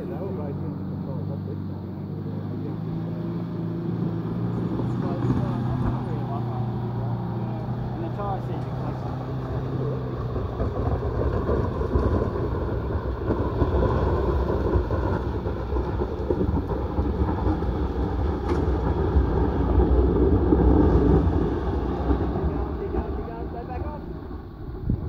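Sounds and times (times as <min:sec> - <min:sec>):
truck engine running hard: 0:00.0 - 0:25.0.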